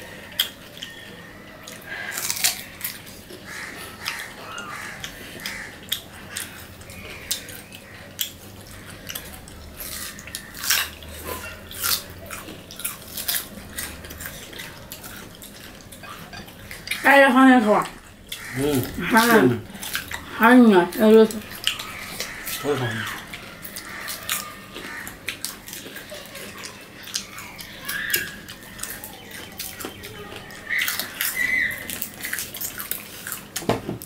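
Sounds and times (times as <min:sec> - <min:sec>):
crunching fruit: 0:00.0 - 0:34.0.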